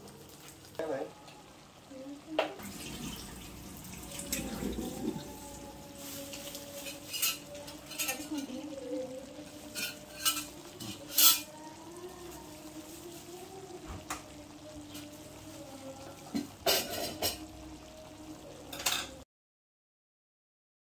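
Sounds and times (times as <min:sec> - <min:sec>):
low steady hum: 0:00.0 - 0:18.7
sizzling: 0:00.0 - 0:19.2.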